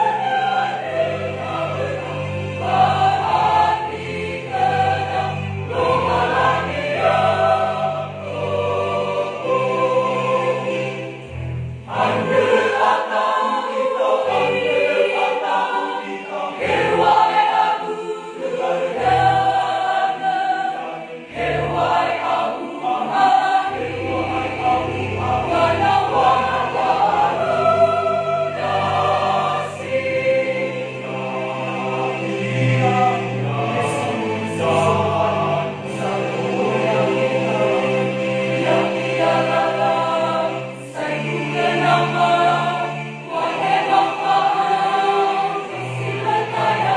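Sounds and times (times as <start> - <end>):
choir singing a hymn: 0.0 - 46.9.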